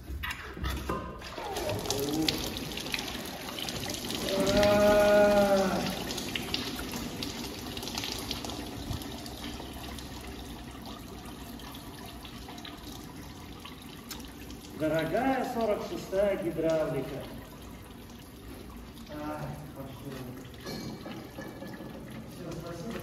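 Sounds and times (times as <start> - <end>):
oil gushing into bucket: 0.0 - 23.0.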